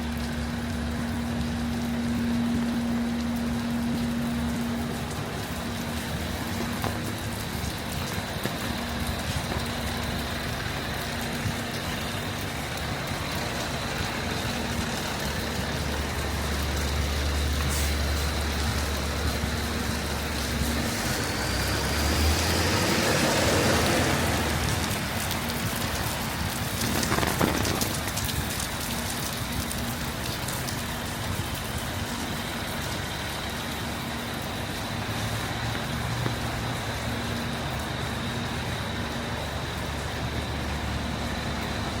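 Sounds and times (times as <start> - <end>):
heavy rain on street: 0.0 - 42.0
vehicle engine rumble: 0.0 - 42.0
vehicle passing on wet road: 0.0 - 42.0.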